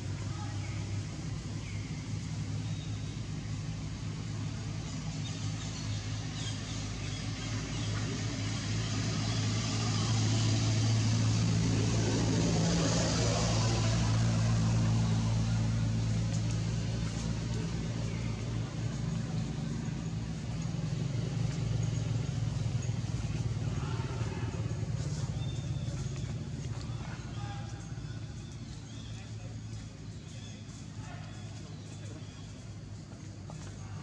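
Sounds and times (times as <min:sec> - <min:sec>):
engine low hum: 0:00.0 - 0:34.0
motor vehicle noise: 0:00.0 - 0:34.0.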